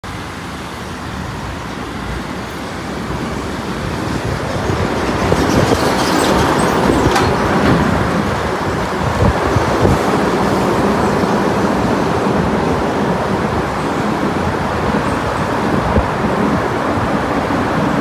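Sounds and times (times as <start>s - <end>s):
road noise from driving vehicle: 0.0s - 18.0s.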